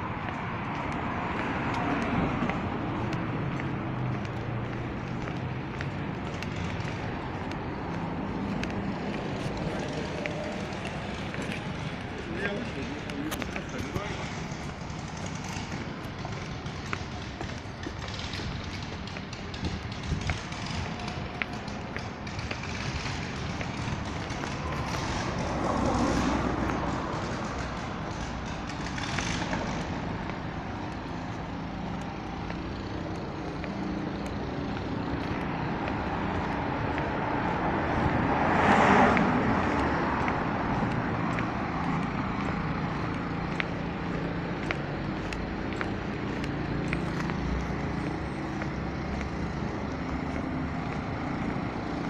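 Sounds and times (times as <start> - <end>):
road traffic hum: 0.0 - 52.0.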